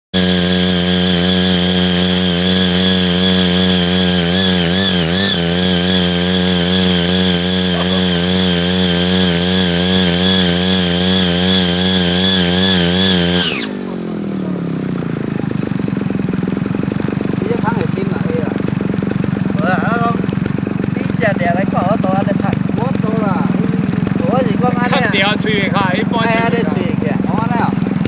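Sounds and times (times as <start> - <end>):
small engine running: 0.1 - 28.0.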